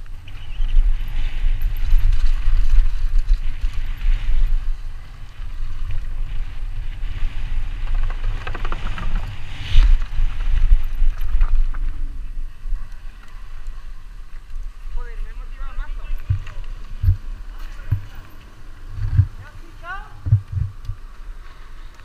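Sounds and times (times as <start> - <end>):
bike rattling on rough ground: 0.0 - 22.0
wind rumbling on microphone: 0.0 - 22.0.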